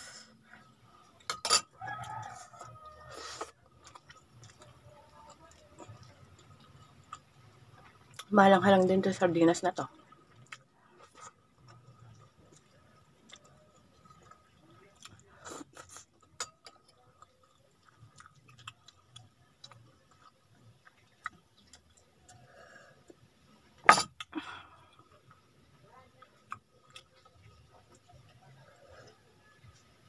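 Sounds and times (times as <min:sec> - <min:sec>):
chewing: 0:00.4 - 0:08.3, 0:09.9 - 0:23.3, 0:26.1 - 0:29.9.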